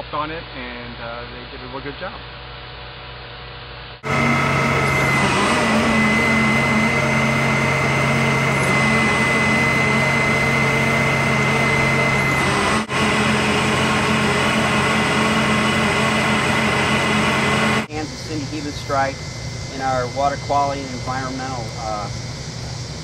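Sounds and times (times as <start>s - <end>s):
machine drone with high whine: 0.0s - 23.0s.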